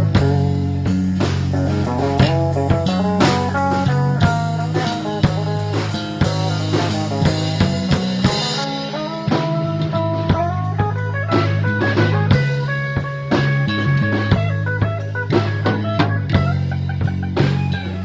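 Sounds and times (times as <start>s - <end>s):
bass guitar: 0.0s - 18.0s
guitar melody: 0.0s - 18.0s
steady drum beat: 0.0s - 18.0s.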